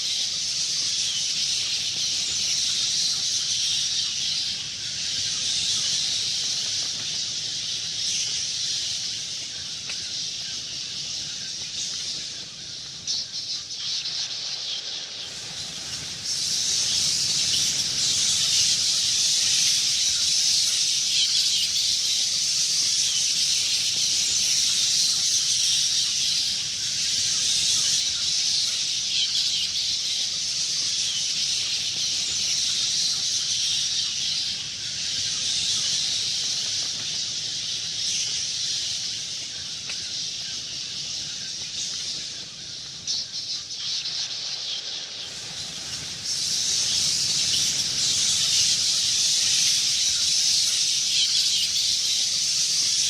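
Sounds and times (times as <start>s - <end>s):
bats chittering and squeaking: 0.0s - 53.0s.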